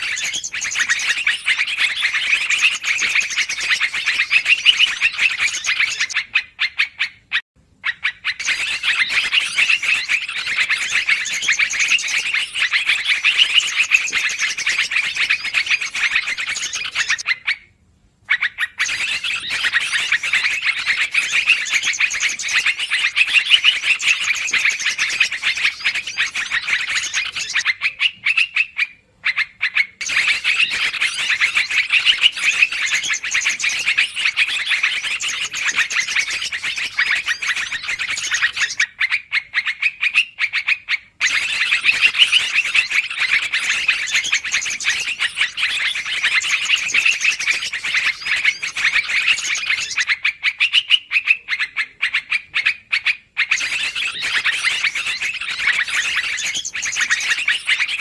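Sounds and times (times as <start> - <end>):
bulbul chattering calls: 0.0 - 17.6, 18.3 - 58.0.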